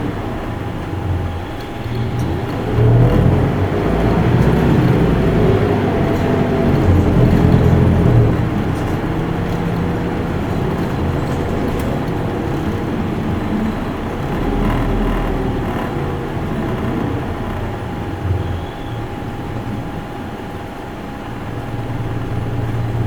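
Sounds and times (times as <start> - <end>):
bus diesel engine: 0.0 - 23.0
road noise: 0.0 - 23.0.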